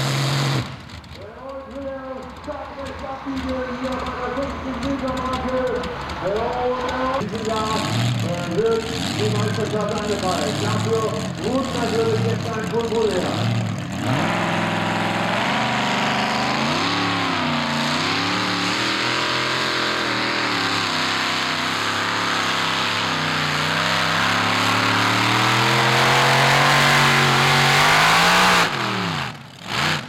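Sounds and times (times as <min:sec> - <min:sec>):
tractor engine at full throttle: 0:00.0 - 0:30.0.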